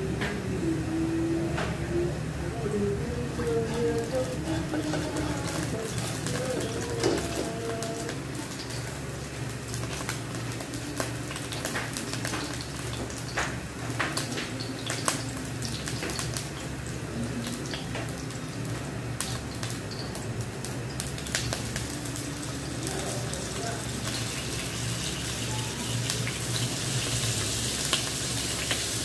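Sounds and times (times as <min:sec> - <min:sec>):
gas burner hiss and hum: 0:00.0 - 0:29.0
oil crackling and popping in wok: 0:03.4 - 0:29.0.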